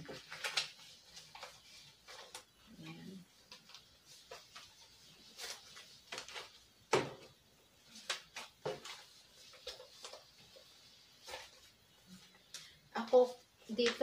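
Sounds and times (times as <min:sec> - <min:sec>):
banknotes crinkling and snapping: 0:00.0 - 0:06.9, 0:07.8 - 0:12.8, 0:13.7 - 0:14.0.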